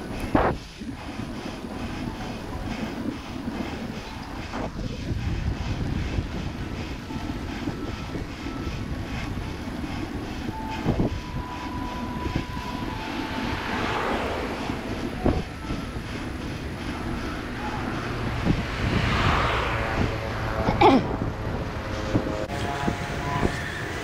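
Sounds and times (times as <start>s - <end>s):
tyre and road noise: 0.0s - 24.0s
wind rumbling on microphone: 0.0s - 24.0s.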